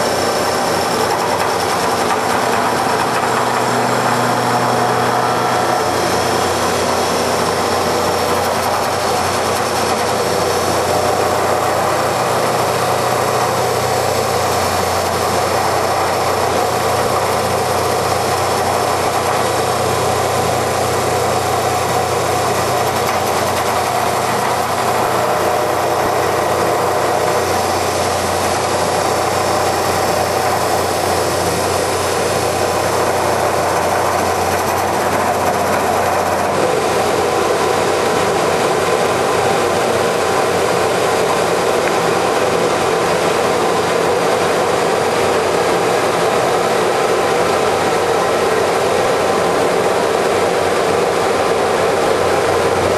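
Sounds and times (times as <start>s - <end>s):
wood lathe droning: 0.0s - 52.9s.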